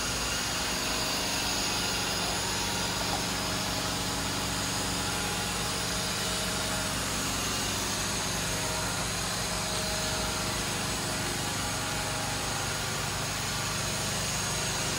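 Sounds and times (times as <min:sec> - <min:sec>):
machine humming with tones: 0:00.0 - 0:14.9.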